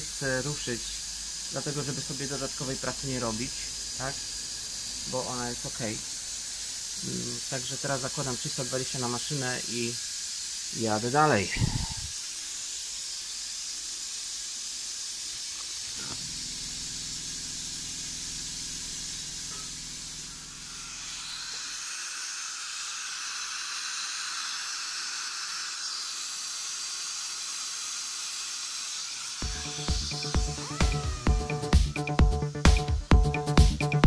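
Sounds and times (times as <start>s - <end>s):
workshop equipment hiss: 0.0s - 34.0s.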